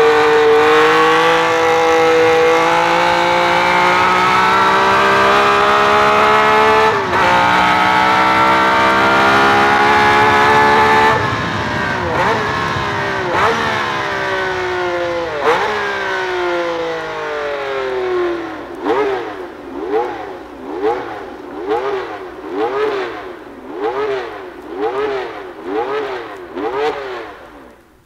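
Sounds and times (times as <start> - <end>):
racing car engines at high revs: 0.0 - 28.0.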